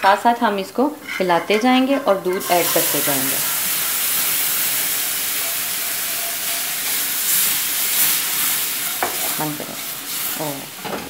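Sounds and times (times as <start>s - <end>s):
milk sizzling in hot pan: 1.8s - 11.0s.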